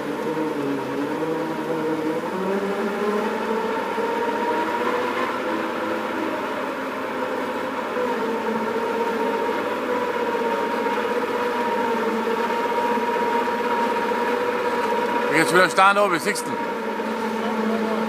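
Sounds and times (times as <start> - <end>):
heavy machine engine running: 0.0 - 18.0
high steady whine: 0.0 - 18.0.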